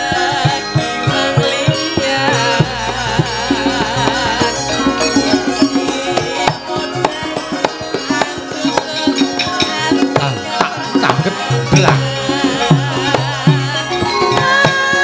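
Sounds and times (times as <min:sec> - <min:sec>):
sustained metallophone tones: 0:00.0 - 0:15.0.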